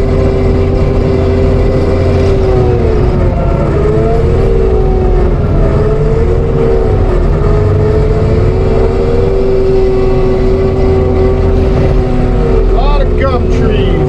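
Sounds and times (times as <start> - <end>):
diesel engine at high revs: 0.0 - 14.0
mulcher head whining: 0.0 - 14.0.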